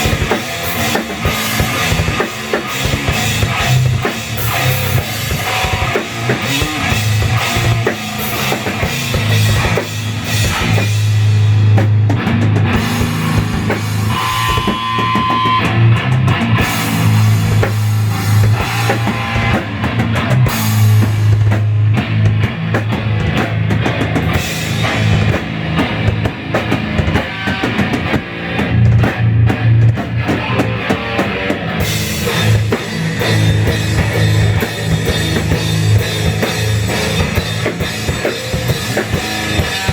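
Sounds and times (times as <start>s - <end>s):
drum hits: 0.0s - 39.9s
guitar holding low notes: 0.0s - 39.9s.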